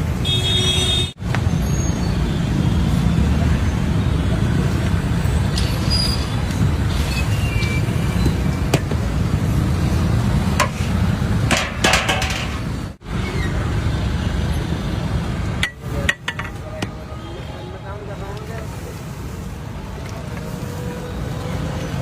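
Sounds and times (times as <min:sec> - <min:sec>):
roadside traffic rumble: 0:00.0 - 0:22.0.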